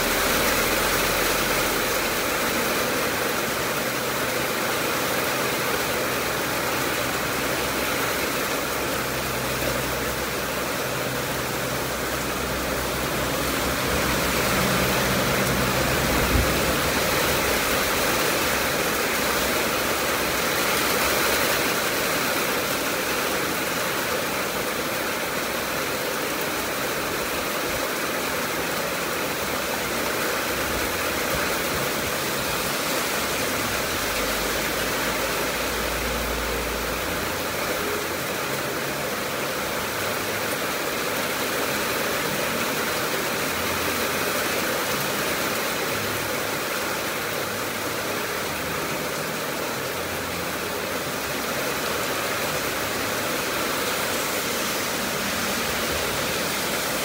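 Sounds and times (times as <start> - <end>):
heavy rain: 0.0 - 57.0
runoff streaming off a roof: 0.0 - 57.0.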